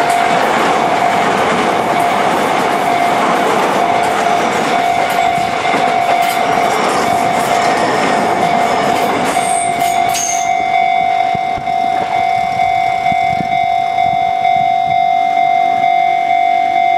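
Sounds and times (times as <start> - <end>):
train wheels rushing over rails: 0.0 - 15.0
steady high-pitched tone: 0.0 - 16.9.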